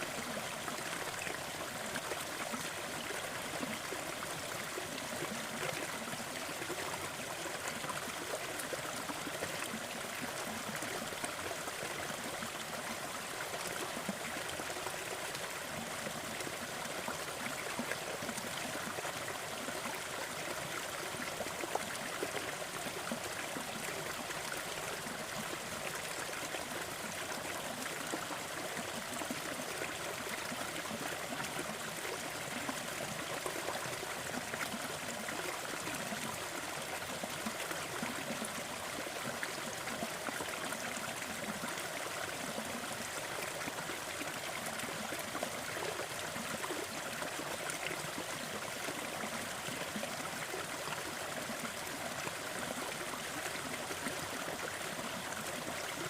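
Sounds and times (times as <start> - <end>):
waterfall and stream splashing: 0.0 - 56.0.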